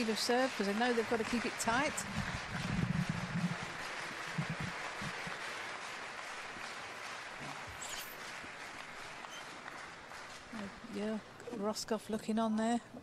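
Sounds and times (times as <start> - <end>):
crowd applauding: 0.0 - 11.4.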